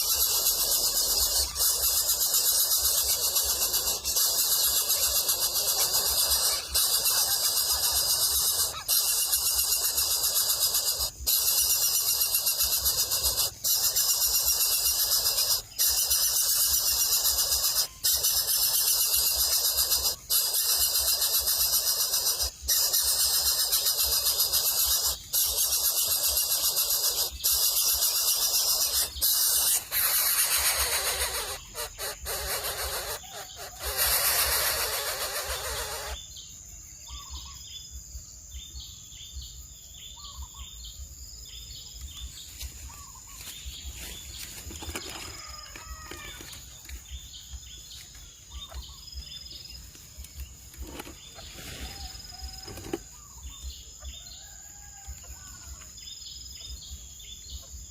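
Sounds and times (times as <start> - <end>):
birds chirping and calling: 0.0 - 38.0, 38.6 - 57.9.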